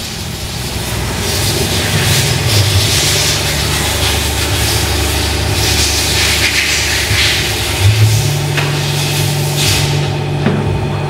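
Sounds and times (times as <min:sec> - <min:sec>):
hiss: 0:00.0 - 0:10.1
low mechanical drone: 0:00.0 - 0:11.0.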